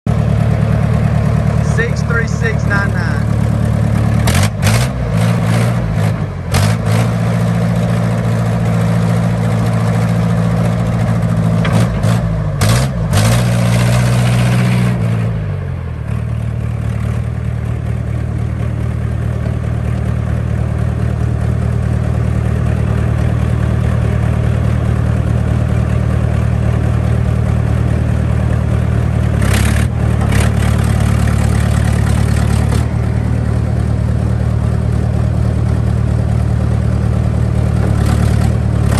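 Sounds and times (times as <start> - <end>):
backhoe diesel engine running: 0.1 - 38.9.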